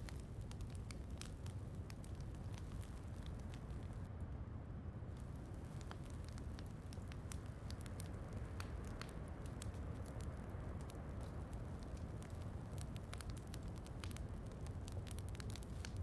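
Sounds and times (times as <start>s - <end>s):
wood fire crackling: 0.0s - 4.1s, 5.1s - 16.0s
low fire rumble: 0.0s - 16.0s.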